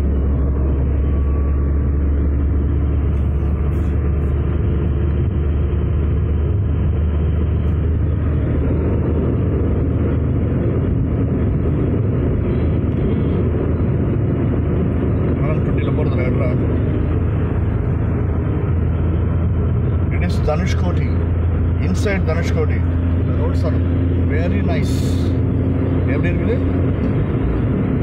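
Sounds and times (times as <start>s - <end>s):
car cabin low rumble: 0.0s - 28.0s.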